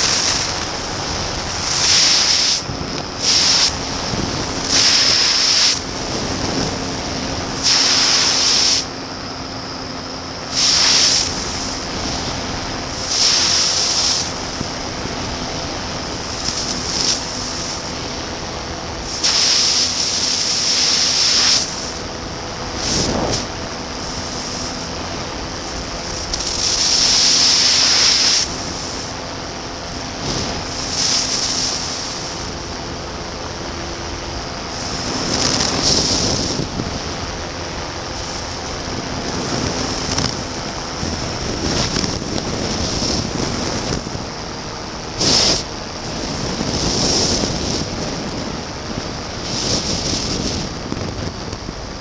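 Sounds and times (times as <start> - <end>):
light aircraft engine droning: 0.0 - 52.0
wind gusts on microphone: 0.0 - 52.0.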